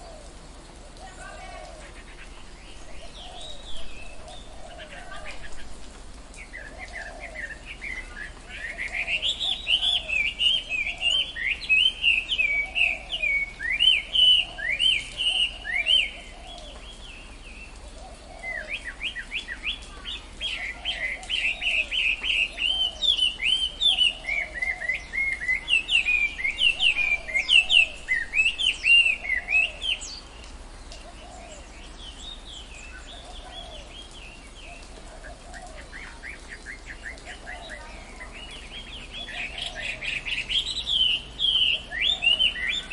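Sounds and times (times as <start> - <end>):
birds chattering chirps: 0.0 - 42.9.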